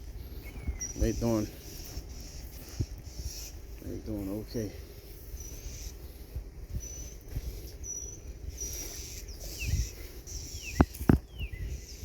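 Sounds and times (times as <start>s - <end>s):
birds chirping: 0.0s - 12.0s
low rumble of wind: 0.0s - 12.0s.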